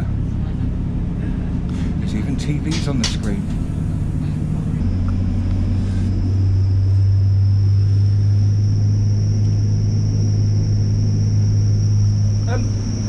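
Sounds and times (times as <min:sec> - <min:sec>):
diesel engine rumble: 0:00.0 - 0:13.0
thin high whine: 0:02.1 - 0:13.0.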